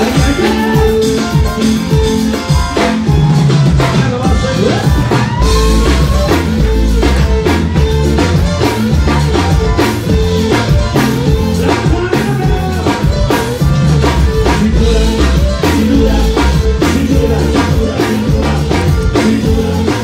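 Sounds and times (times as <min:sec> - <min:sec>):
dance band music over pa: 0:00.0 - 0:20.0
drum kit and bass beat: 0:00.0 - 0:20.0.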